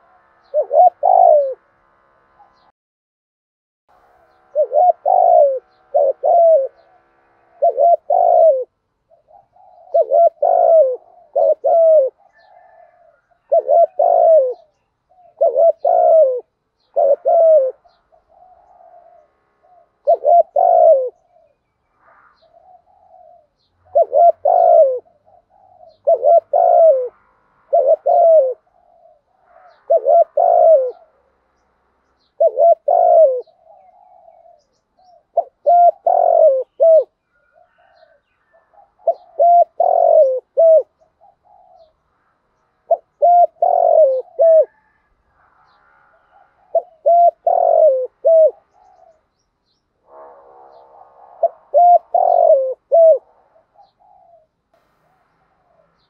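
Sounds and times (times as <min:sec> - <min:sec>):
dove cooing: 0:00.0 - 0:02.7, 0:04.1 - 0:21.6, 0:22.3 - 0:31.4, 0:32.2 - 0:49.4, 0:50.0 - 0:56.0.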